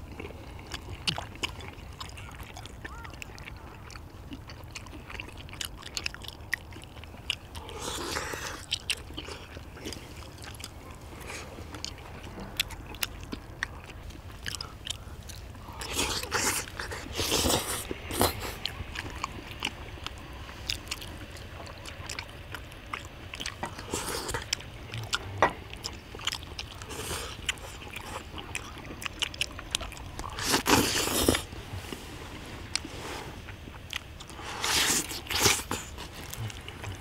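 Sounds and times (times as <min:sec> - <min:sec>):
people chewing and slurping: 0:00.0 - 0:37.0.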